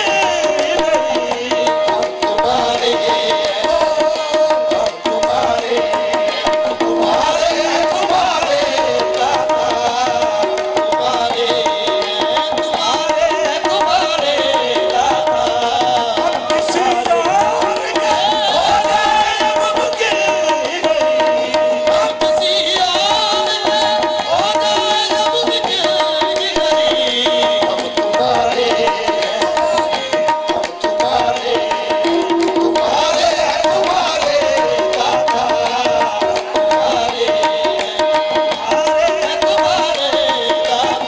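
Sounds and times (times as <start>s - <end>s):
harmonium: 0.0s - 41.0s
tabla drumming: 0.0s - 41.0s.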